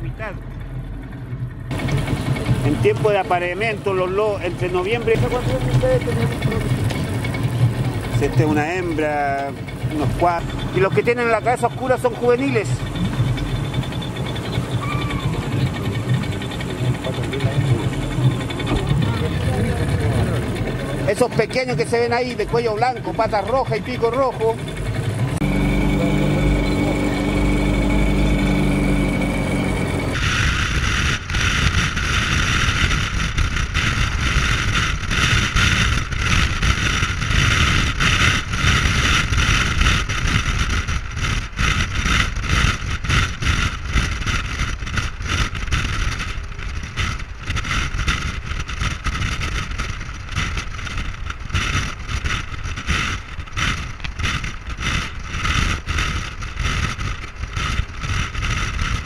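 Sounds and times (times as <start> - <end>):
engine hum: 0.0 - 59.0
road and tyre rumble: 0.0 - 59.0
wind buffeting microphone: 0.0 - 59.0.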